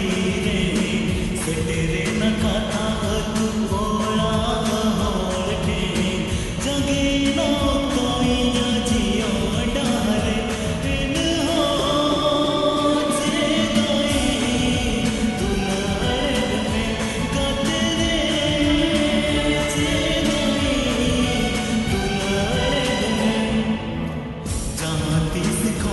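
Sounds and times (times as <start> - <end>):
ringtone song with singing voices: 0.0 - 25.9.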